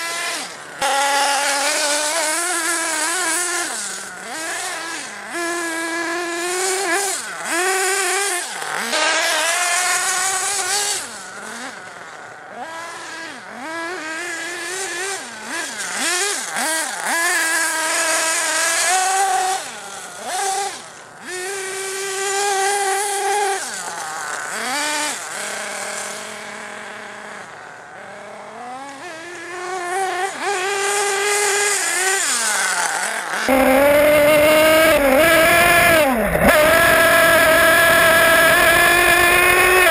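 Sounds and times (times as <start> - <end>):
model truck engine revving: 0.0 - 39.9.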